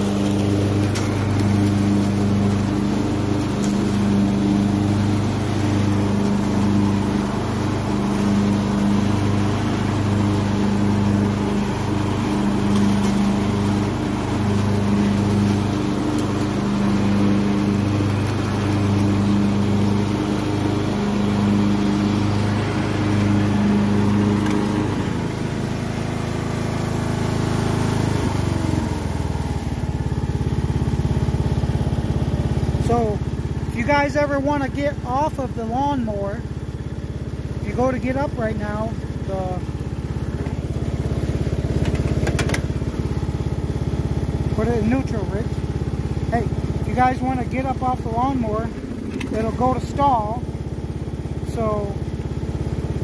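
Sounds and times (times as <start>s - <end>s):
riding lawn mower engine: 0.0s - 53.0s.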